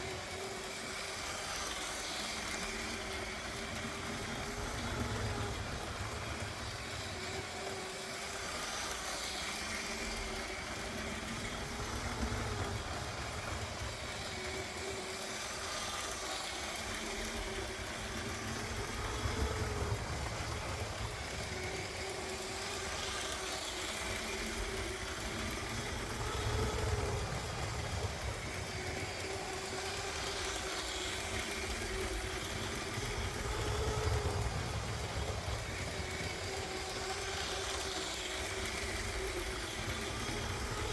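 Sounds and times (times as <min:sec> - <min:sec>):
small motor humming: 0:00.0 - 0:40.9
toy train wheels rumbling on track: 0:00.0 - 0:40.9.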